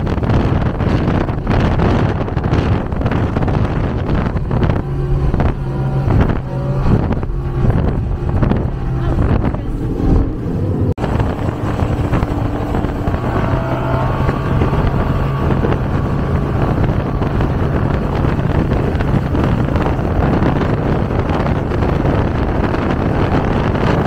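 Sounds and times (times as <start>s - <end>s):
outboard engines running: 0.0s - 24.0s
water rushing past hull: 0.0s - 24.0s
wind buffeting microphone: 0.0s - 24.0s.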